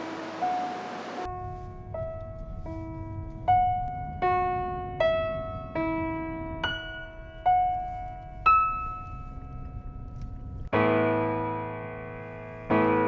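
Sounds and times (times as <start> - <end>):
faint low rumble: 0.0 - 10.7
slow piano melody: 0.0 - 13.0.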